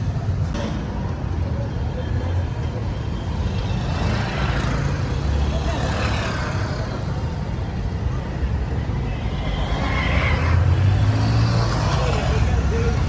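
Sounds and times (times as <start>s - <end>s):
tyres on road: 0.0s - 13.0s.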